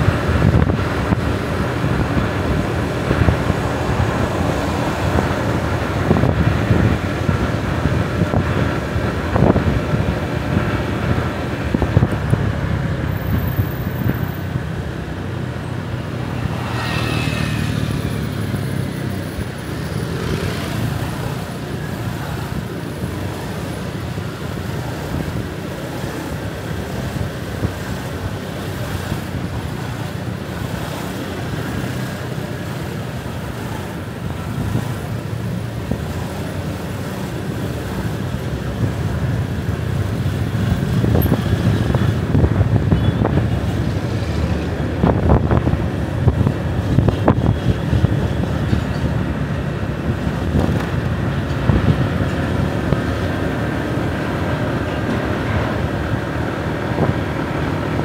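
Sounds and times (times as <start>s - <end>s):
traffic rush of engines and tyres: 0.0s - 58.0s.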